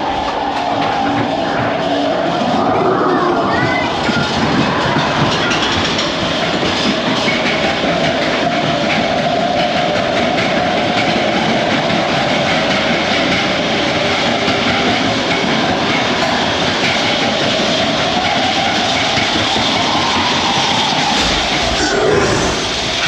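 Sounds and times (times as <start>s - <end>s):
roller coaster wheels rumbling on rails: 0.0s - 23.0s.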